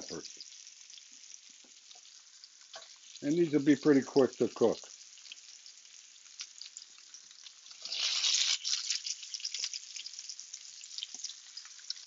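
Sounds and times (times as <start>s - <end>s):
peppers sizzling in hot oil: 0.0s - 12.0s.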